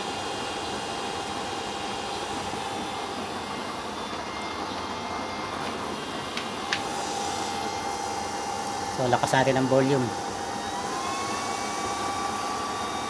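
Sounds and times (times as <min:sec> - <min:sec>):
blower fans rushing hum: 0:00.0 - 0:13.0
steady whine: 0:00.0 - 0:13.0.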